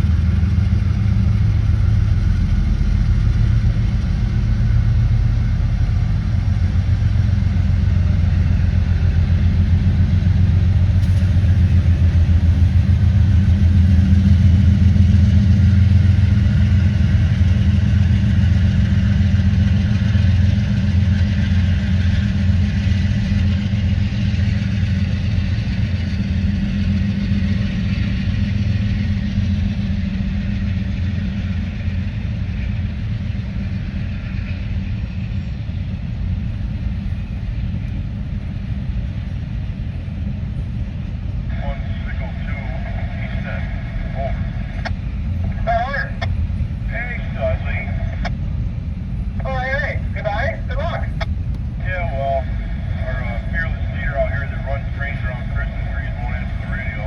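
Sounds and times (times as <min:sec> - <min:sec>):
diesel locomotive engines rumbling: 0:00.0 - 0:57.0.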